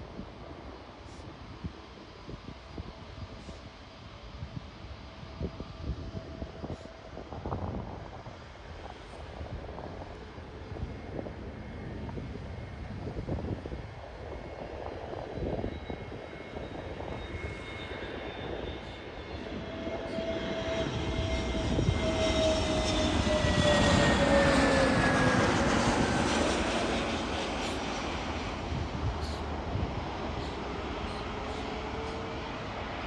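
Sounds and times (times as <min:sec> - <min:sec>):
jet engines passing: 0:00.0 - 0:33.0.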